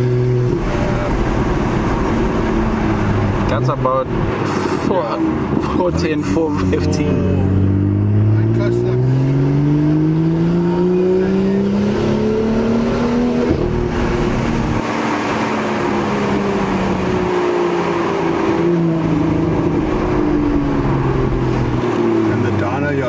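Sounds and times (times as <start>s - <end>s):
car engine revving: 0.0s - 23.0s
road noise: 0.0s - 23.0s.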